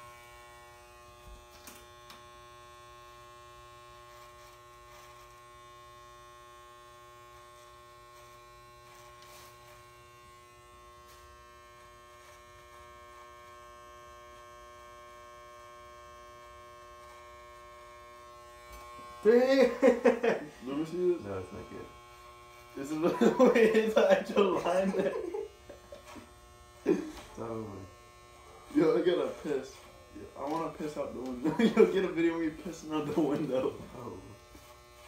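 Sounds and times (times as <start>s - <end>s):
hair clippers buzzing: 0.0s - 35.0s.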